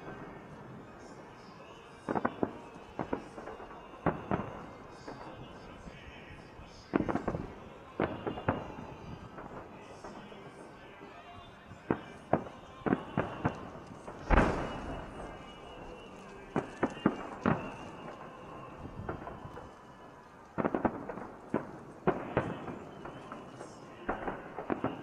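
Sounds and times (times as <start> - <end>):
fireworks booming: 0.0 - 25.0
rolling echo: 0.0 - 25.0.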